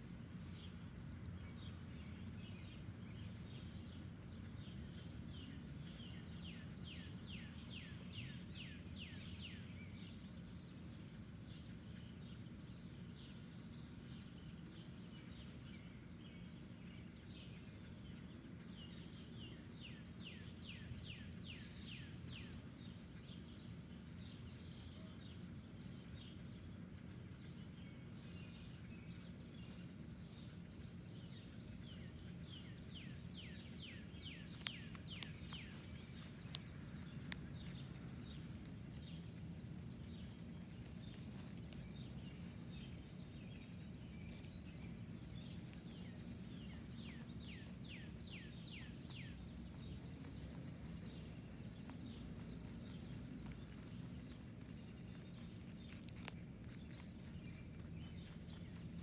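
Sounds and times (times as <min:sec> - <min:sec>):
low outdoor hum: 0:00.0 - 0:59.0
songbird singing: 0:00.0 - 0:59.0.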